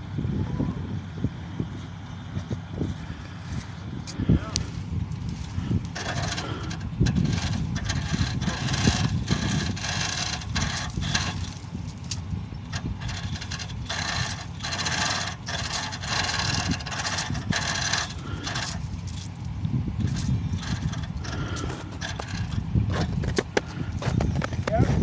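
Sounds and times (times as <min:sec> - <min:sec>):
truck engine rumbling: 0:00.0 - 0:25.0
scraping noises: 0:02.9 - 0:12.0, 0:12.7 - 0:19.4, 0:20.0 - 0:25.0.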